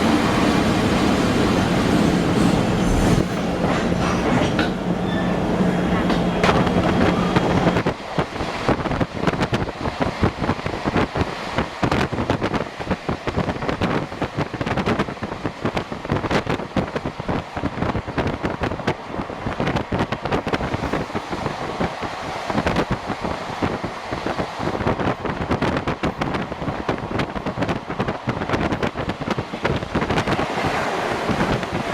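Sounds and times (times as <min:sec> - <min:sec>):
train running noise: 0:00.0 - 0:31.9
wind buffeting microphone: 0:00.0 - 0:31.9.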